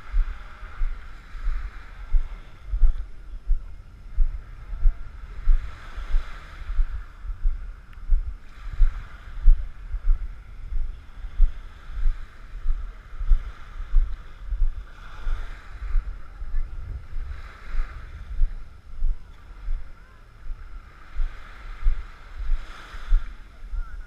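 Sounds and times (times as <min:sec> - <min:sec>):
small waves on shore: 0:00.0 - 0:24.0.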